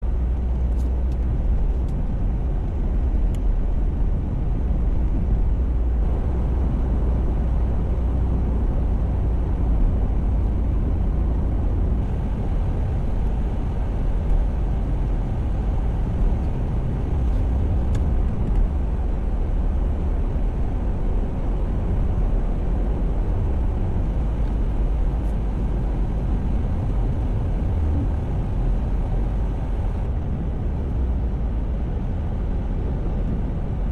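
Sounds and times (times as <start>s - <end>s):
car road and engine rumble: 0.0s - 33.9s.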